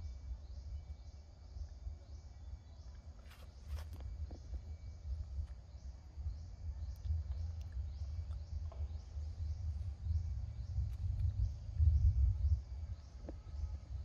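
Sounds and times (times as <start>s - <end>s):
insect chirping: 0.0s - 14.0s
steady low rumble: 0.0s - 14.0s.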